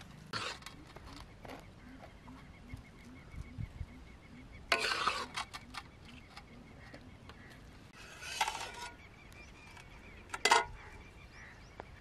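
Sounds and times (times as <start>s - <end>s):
faint bird calls: 0.4s - 12.0s.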